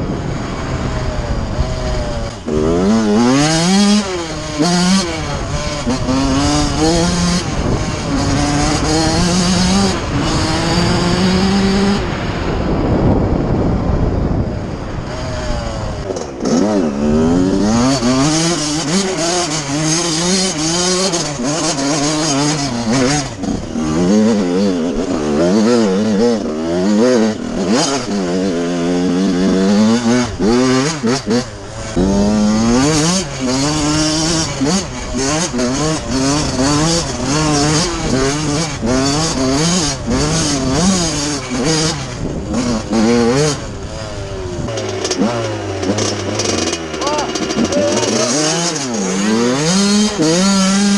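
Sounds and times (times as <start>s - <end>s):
motocross engine revving: 0.0s - 13.3s, 14.3s - 50.9s
tyre noise on trail: 0.0s - 50.9s
wind noise: 0.0s - 50.9s.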